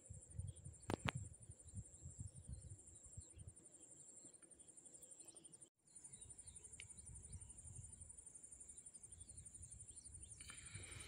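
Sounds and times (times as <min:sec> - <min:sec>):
insects trilling: 0:00.1 - 0:11.0.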